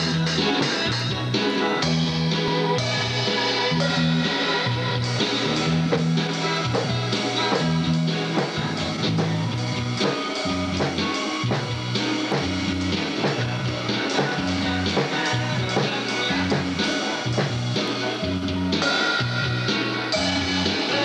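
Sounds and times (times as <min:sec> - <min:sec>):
bass line: 0:00.0 - 0:21.0
drum and cymbal hits: 0:00.0 - 0:21.0
electric guitar: 0:00.0 - 0:21.0.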